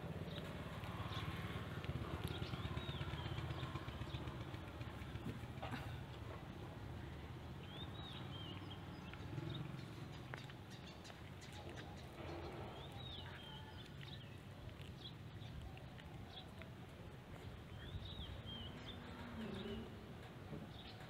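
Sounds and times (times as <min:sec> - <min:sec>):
cat chewing food: 0:00.0 - 0:03.8, 0:04.4 - 0:20.5.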